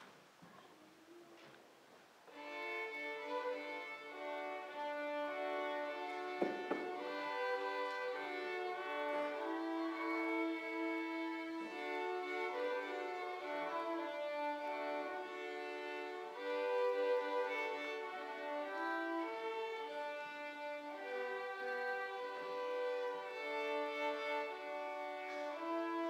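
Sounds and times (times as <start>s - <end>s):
string orchestra playing slowly: 2.2s - 26.0s.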